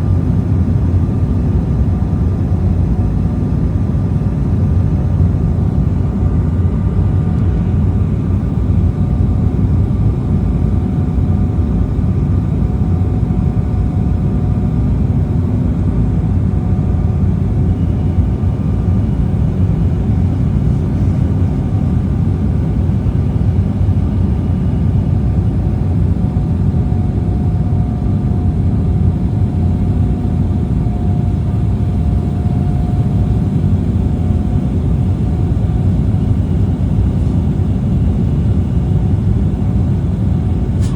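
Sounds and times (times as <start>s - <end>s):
faint steady whine: 0.0s - 40.9s
jet engine and airflow rumble: 0.0s - 40.9s.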